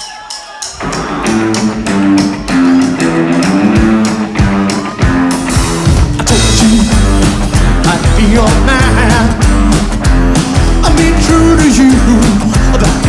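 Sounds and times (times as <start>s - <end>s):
steady drum beat: 0.0s - 13.0s
guitar line: 0.6s - 13.0s.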